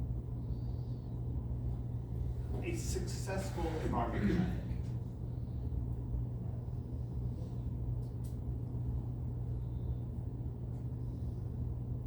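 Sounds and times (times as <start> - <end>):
low hum of room noise: 0.0 - 12.0.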